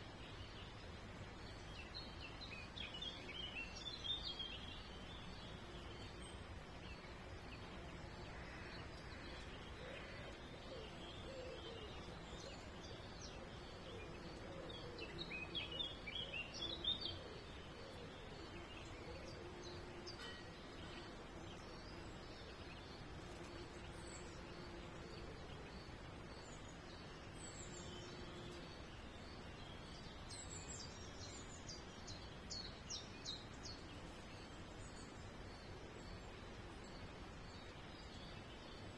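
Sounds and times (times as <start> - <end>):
faint background noise: 0.0 - 38.9
small birds chirping: 0.0 - 38.9.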